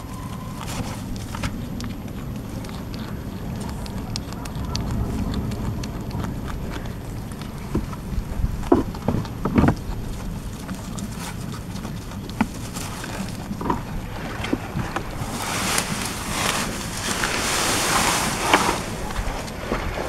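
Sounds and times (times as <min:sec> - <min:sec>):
goat chewing grass: 0:00.0 - 0:20.0
grass brushing microphone: 0:00.0 - 0:20.0
wind rumbling on microphone: 0:00.0 - 0:20.0.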